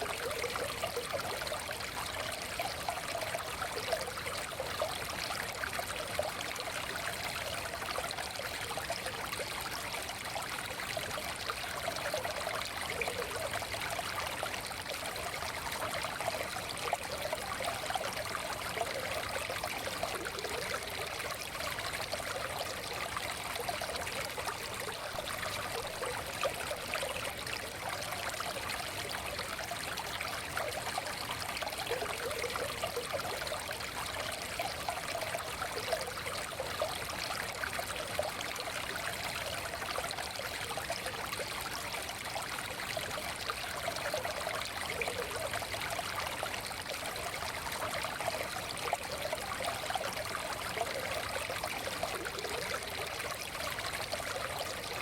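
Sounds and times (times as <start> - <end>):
stream burbling over stones: 0.0 - 55.0.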